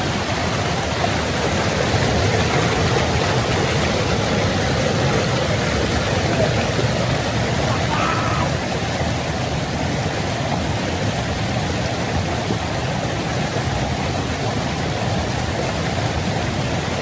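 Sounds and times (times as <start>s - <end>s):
river water tumbling over rocks: 0.0s - 17.0s.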